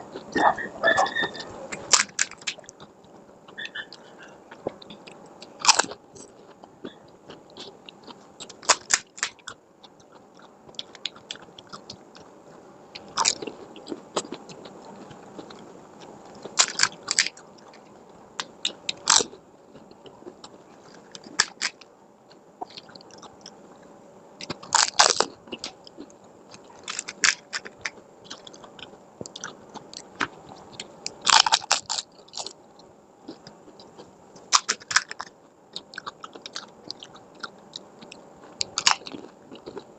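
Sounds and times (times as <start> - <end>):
crunchy shells bitten and chewed: 0.0 - 39.9.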